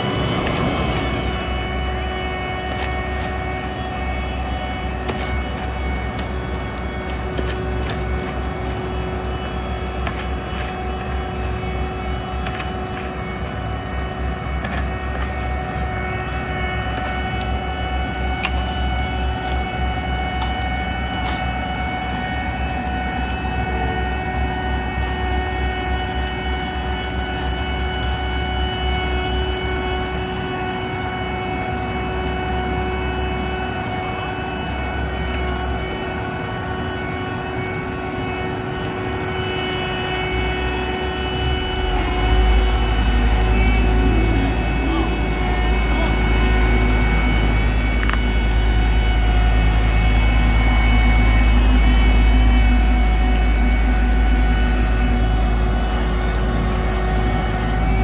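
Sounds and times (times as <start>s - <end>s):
diesel engine rumble: 0.0s - 58.0s
high whine: 0.0s - 58.0s
steady hum: 0.0s - 58.0s.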